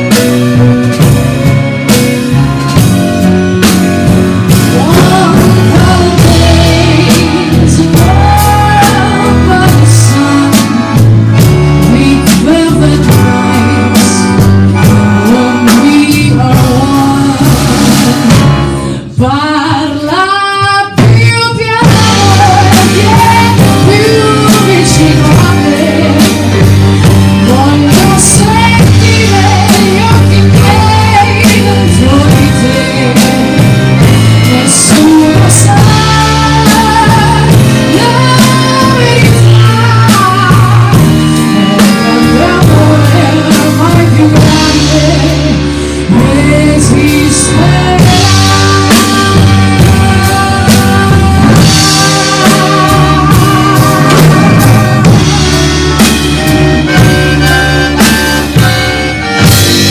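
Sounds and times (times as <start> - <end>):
accordion melody: 0.0 - 59.9
live band playing: 0.0 - 59.9.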